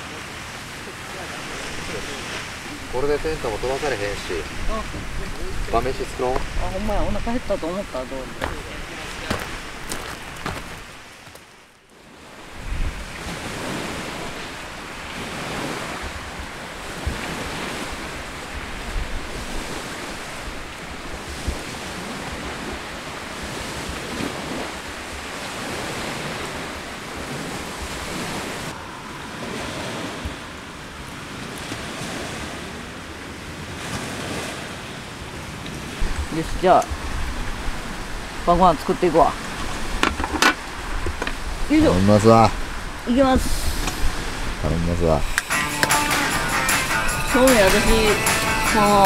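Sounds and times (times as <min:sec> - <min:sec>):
wind gusting on microphone: 0:00.0 - 0:45.5
waves washing onto pebbles: 0:00.0 - 0:49.0.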